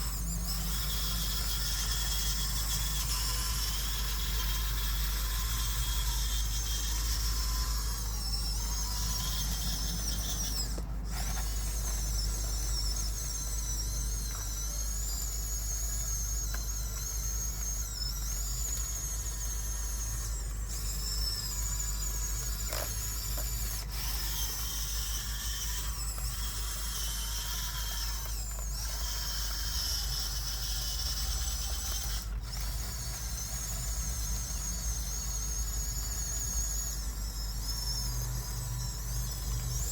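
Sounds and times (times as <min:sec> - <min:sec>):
toy bulldozer motors whining: 0:00.0 - 0:39.9.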